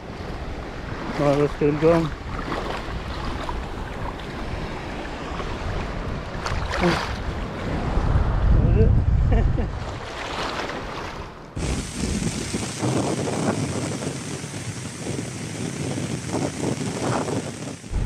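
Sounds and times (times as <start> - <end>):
surf waves washing on beach: 0.0 - 18.0.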